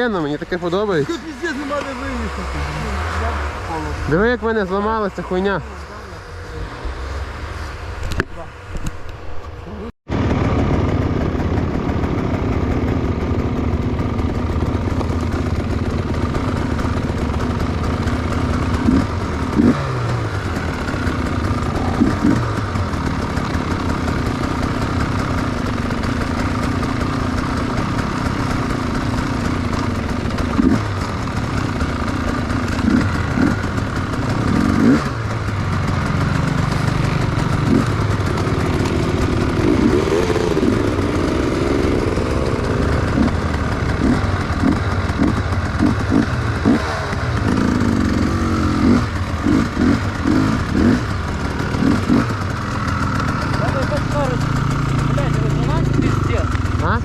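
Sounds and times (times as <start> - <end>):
motorcycle engine running: 0.0 - 57.0
motorcycle throttle blips: 0.0 - 57.0.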